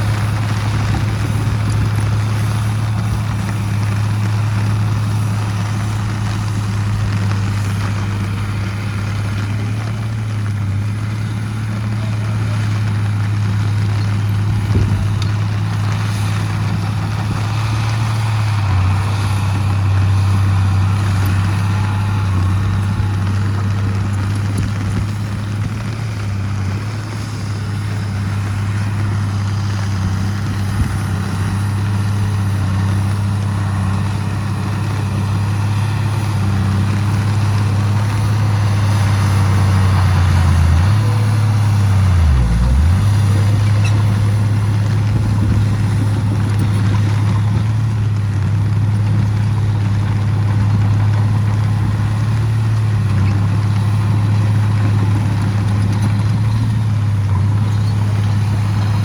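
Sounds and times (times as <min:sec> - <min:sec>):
heavy diesel machinery engine running: 0:00.0 - 0:59.0.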